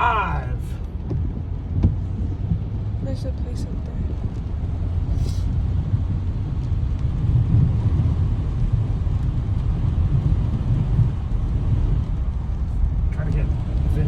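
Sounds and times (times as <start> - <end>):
car driving low rumble: 0.0 - 14.0.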